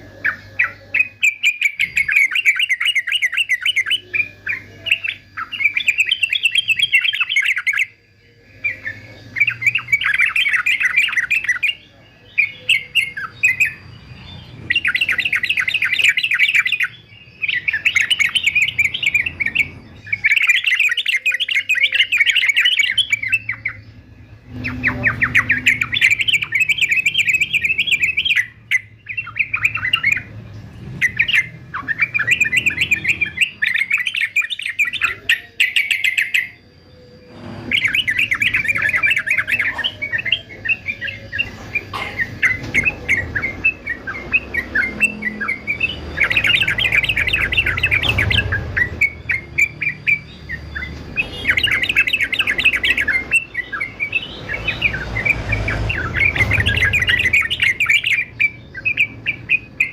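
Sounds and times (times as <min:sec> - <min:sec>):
bird singing bubbling chatter: 0:00.0 - 0:59.9.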